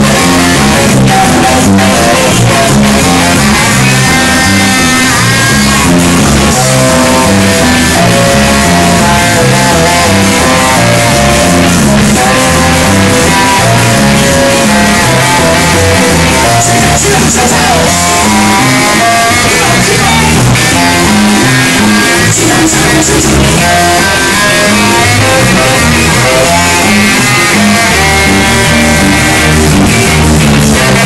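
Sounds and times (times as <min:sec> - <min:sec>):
live ska band playing: 0:00.0 - 0:31.0.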